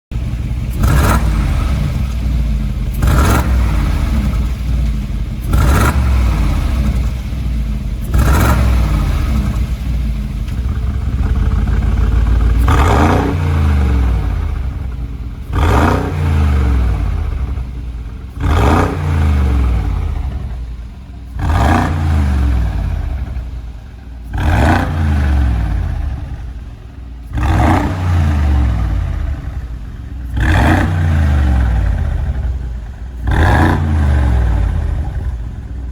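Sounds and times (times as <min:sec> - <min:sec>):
engine revving: 0:00.1 - 0:35.9
exhaust crack: 0:00.1 - 0:35.9.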